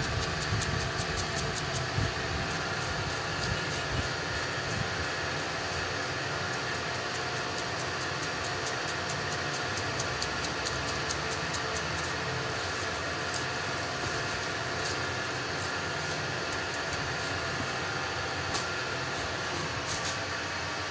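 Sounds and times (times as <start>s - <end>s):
street traffic rumble: 0.0s - 20.9s.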